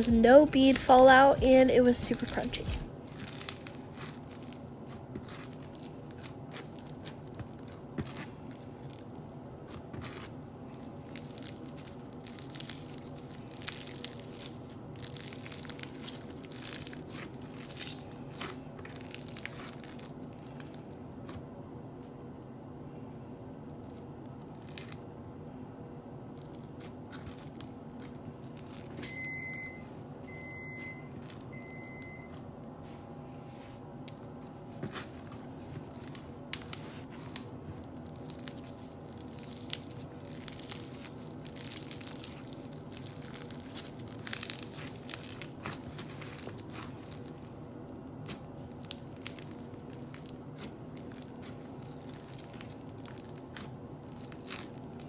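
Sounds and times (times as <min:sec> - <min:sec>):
crunchy slime crackling: 0:00.0 - 0:22.5, 0:23.4 - 0:25.4, 0:26.2 - 0:32.4, 0:34.0 - 0:55.0
steady low hum: 0:00.0 - 0:55.0.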